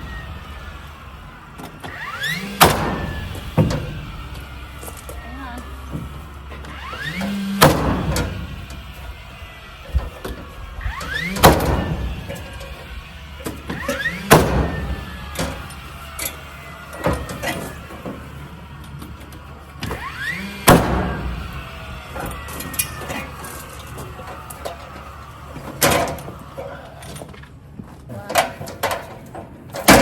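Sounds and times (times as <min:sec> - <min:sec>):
nail gun whine and bang: 0:00.0 - 0:30.0.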